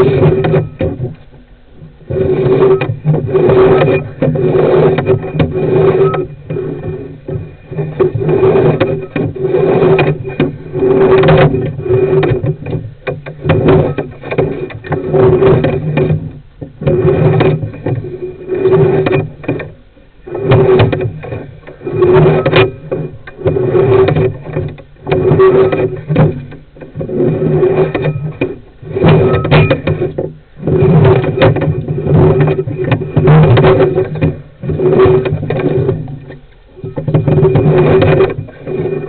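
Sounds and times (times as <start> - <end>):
cable scraping and rattling: 0.0 - 39.0
steady low hum: 0.0 - 39.0.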